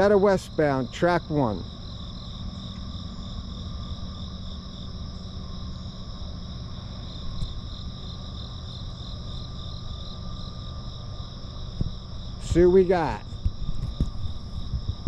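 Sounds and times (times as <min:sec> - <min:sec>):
high-pitched insect trilling: 0:00.0 - 0:15.0
low steady rumble: 0:00.0 - 0:15.0.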